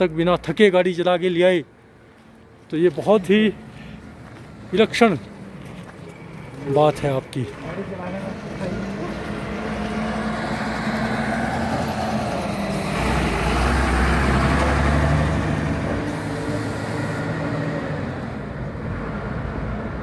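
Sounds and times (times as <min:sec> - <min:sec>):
truck engine rumble passing: 0:03.0 - 0:20.0.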